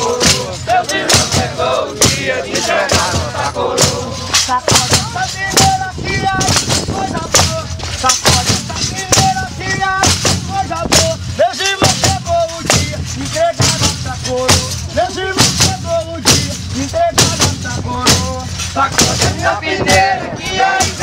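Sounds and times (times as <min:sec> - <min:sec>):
drums beating steady rhythm: 0:00.0 - 0:21.0
voices singing held notes: 0:00.0 - 0:21.0.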